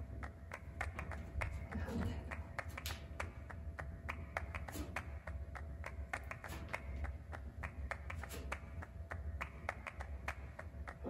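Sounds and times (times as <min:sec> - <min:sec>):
low steady hum: 0:00.0 - 0:11.0
rhythmic hand clapping: 0:00.0 - 0:11.0.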